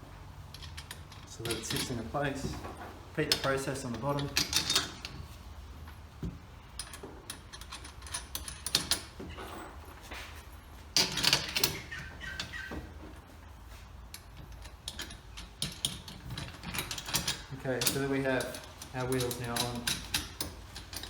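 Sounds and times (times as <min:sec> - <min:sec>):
metal bolts clicking and knocking: 0:00.5 - 0:05.3, 0:06.2 - 0:09.8, 0:10.9 - 0:13.3, 0:14.1 - 0:21.0.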